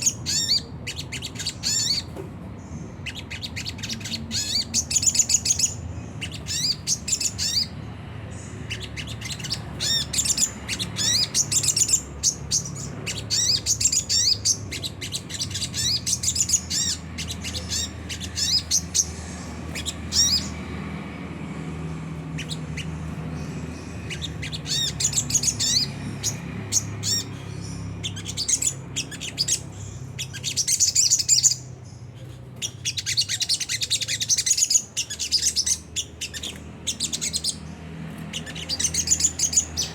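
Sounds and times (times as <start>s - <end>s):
bird chattering calls: 0.0s - 20.9s, 22.2s - 39.9s.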